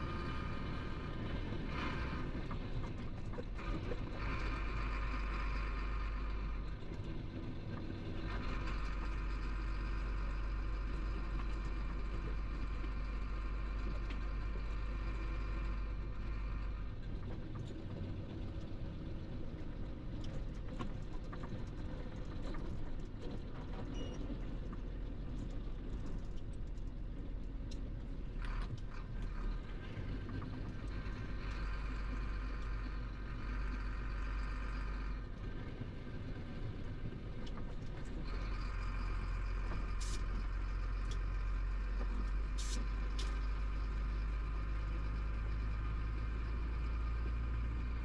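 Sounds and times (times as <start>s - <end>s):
road noise: 0.0s - 48.0s
truck diesel engine drone: 0.0s - 48.0s.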